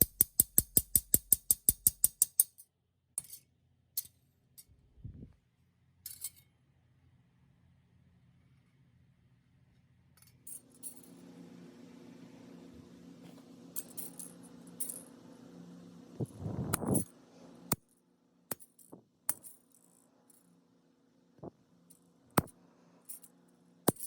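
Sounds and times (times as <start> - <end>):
low steady hum: 4.6 - 24.0.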